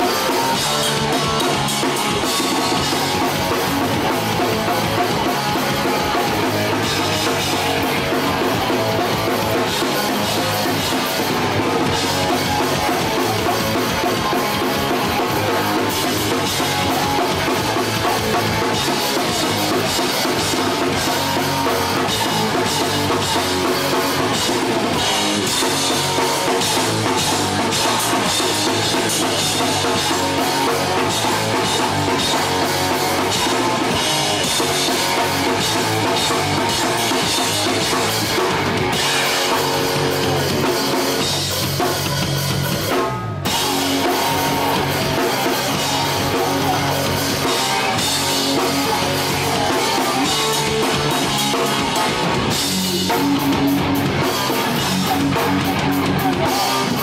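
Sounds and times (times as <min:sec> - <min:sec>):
punk band playing live: 0:00.0 - 0:57.0.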